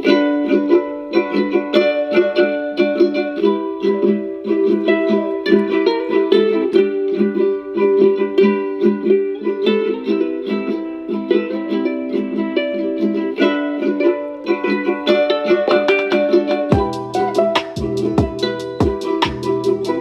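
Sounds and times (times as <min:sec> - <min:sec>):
plucked-string song on speaker: 0:00.0 - 0:20.0.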